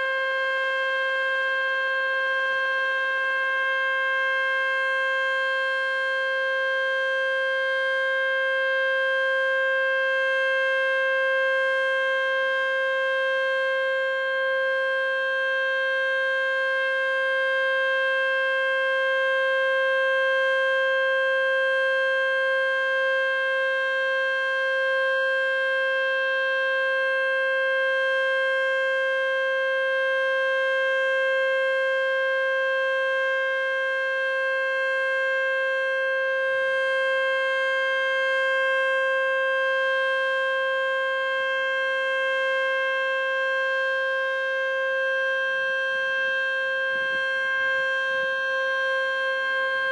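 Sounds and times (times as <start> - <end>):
warning siren steady tone: 0.0 - 49.9.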